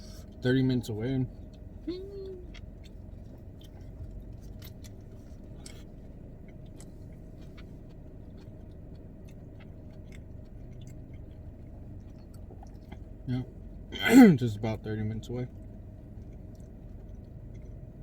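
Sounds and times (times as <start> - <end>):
closed-mouth hum: 0.0 - 18.0
low hum: 0.0 - 18.0
person chewing food: 1.3 - 13.9, 15.5 - 18.0.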